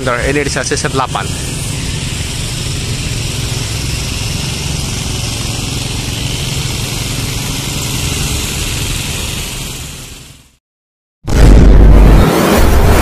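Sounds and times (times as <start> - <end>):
car and motorcycle engines: 0.0 - 10.6, 11.7 - 13.0.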